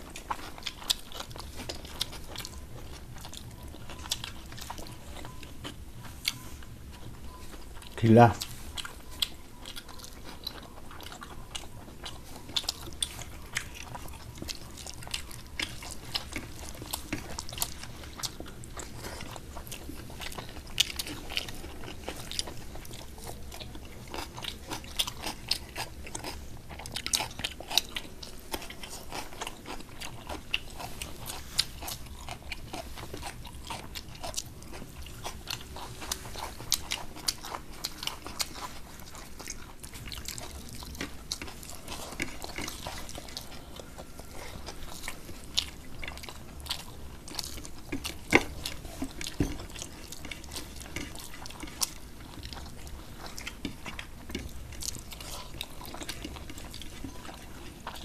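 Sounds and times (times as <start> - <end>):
chewing and mouth sounds: 0.0 - 58.0
fingers mixing rice on plates: 0.2 - 58.0.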